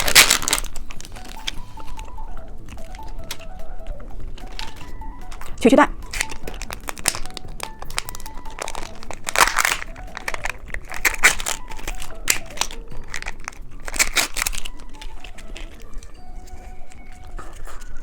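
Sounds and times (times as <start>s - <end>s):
plastic wrapper crinkling: 0.0s - 18.0s
soft background music: 0.0s - 18.0s.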